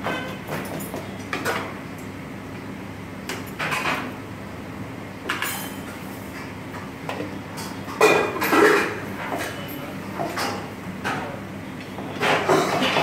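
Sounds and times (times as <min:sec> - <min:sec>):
low kitchen hum: 0:00.0 - 0:13.0.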